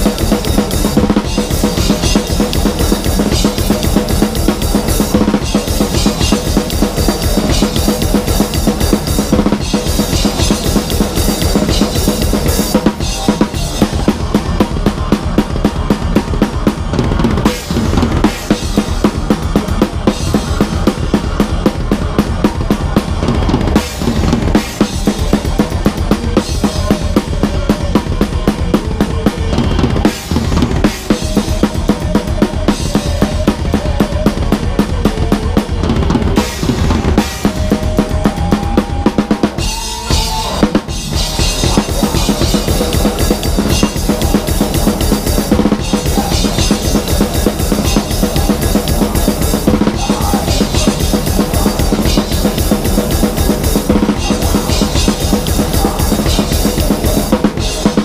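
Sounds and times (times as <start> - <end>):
fast metal drumming: 0.0 - 58.0
metal band playing: 0.0 - 58.0.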